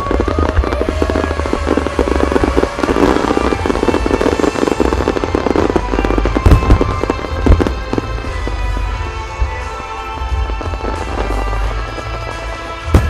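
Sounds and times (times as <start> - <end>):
fireworks crackling: 0.0 - 13.0
heavy firework booms: 0.0 - 13.0
music: 0.0 - 13.0.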